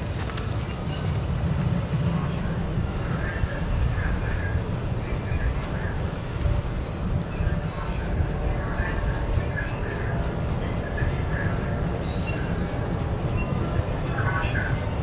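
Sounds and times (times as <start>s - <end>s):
low rumble of city traffic: 0.0s - 15.0s
rail wheels squealing: 0.0s - 15.0s.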